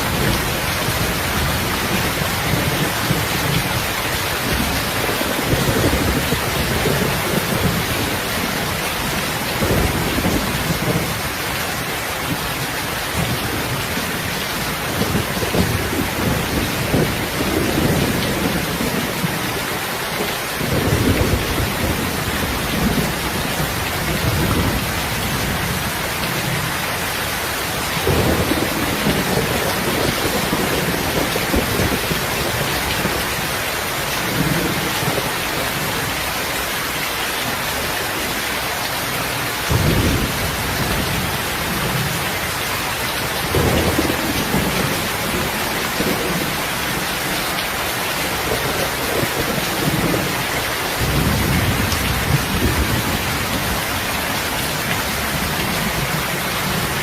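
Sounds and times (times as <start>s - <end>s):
thunder rumbling: 0.0s - 27.1s, 27.7s - 36.4s, 39.3s - 47.4s, 48.2s - 57.0s
heavy rain hissing: 0.0s - 57.0s.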